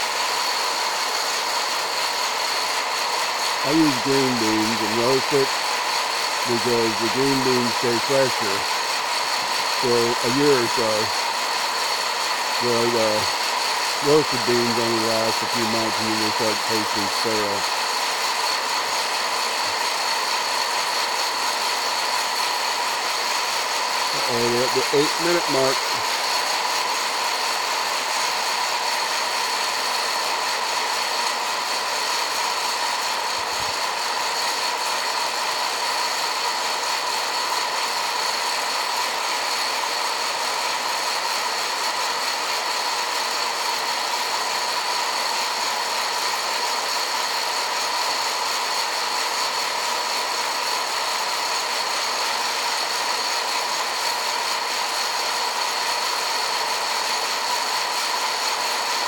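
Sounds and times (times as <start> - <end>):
coffee roaster fan whining: 0.0 - 59.0.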